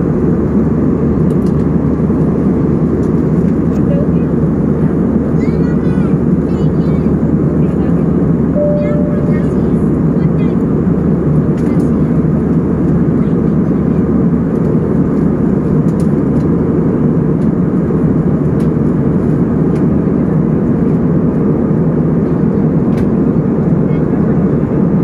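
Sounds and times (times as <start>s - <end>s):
jet airliner cabin noise: 0.0s - 25.0s.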